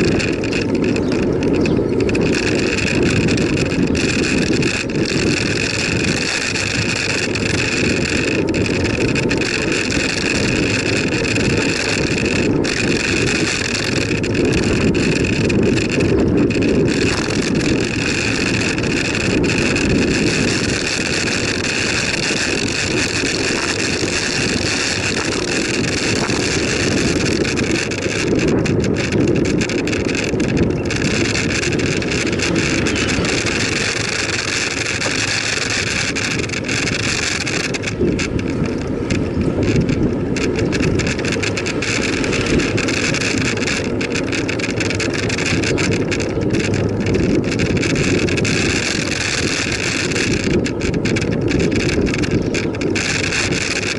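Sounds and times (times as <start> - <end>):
bicycle tyres rolling on tarmac: 0.0 - 53.9
wind rushing over microphone: 0.0 - 53.9.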